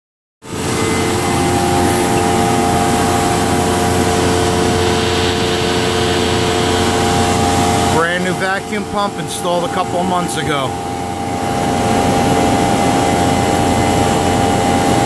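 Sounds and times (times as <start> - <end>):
vacuum pump humming: 0.4 - 15.0.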